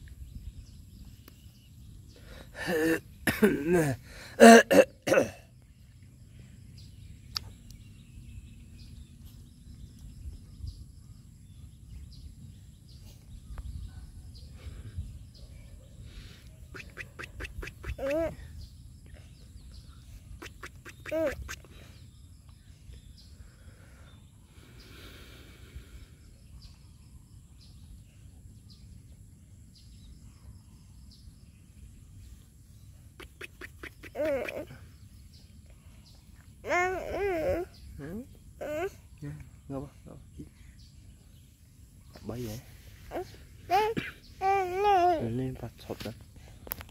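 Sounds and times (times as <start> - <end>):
faint bird chirps: 0.0 - 46.9.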